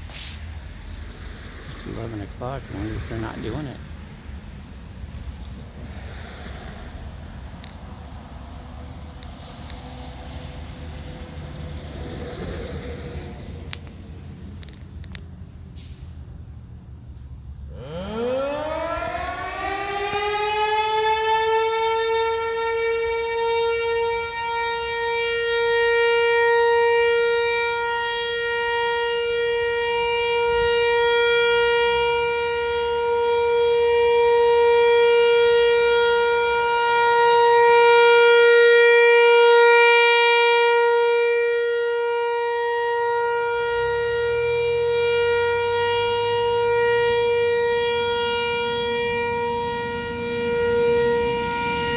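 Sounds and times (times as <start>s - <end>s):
tornado warning siren: 0.0s - 51.9s.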